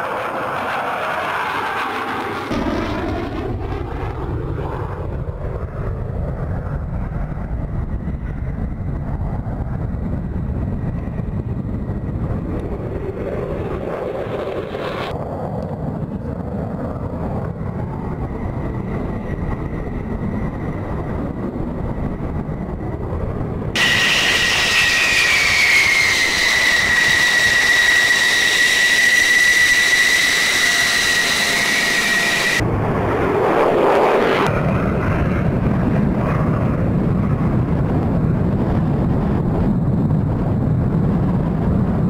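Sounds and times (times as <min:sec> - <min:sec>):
jet engines rumbling: 0:00.0 - 0:42.0
jet passing with falling whine: 0:00.0 - 0:42.0.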